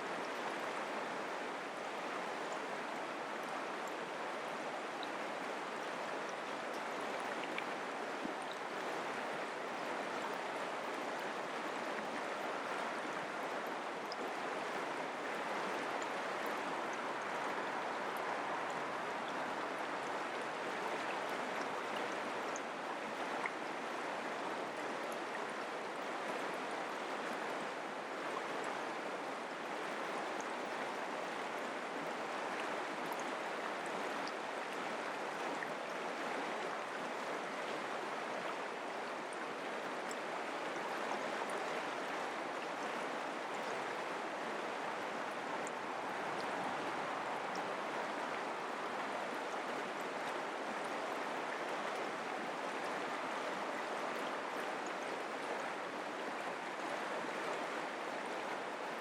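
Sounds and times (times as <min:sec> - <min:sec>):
creek water running: 0:00.0 - 0:59.0.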